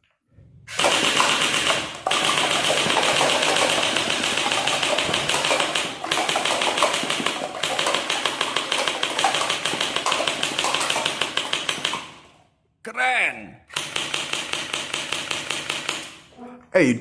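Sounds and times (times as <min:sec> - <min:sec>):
toy gun rapid clicking: 0:00.7 - 0:12.4, 0:13.7 - 0:16.3.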